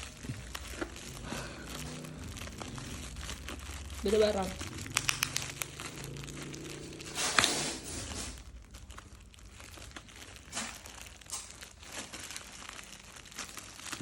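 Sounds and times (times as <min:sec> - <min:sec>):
packing tape ripping: 0:00.0 - 0:14.0
wrapping crinkling: 0:00.0 - 0:14.0.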